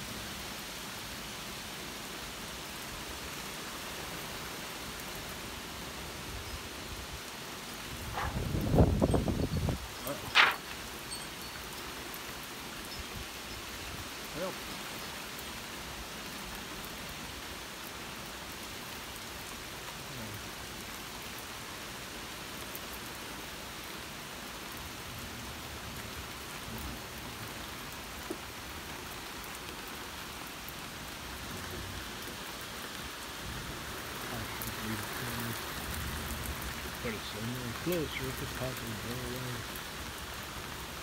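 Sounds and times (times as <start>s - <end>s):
rain falling on wooden deck: 0.0s - 41.0s.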